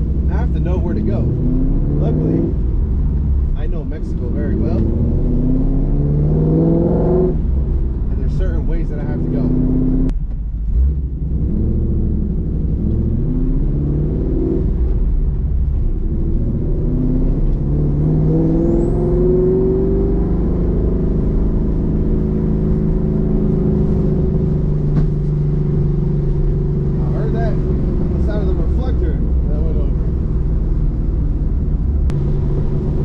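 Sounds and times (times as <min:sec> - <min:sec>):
car engine revving from inside cabin: 0:00.7 - 0:03.0, 0:04.0 - 0:08.4, 0:09.2 - 0:10.1, 0:10.8 - 0:15.1, 0:16.0 - 0:33.0.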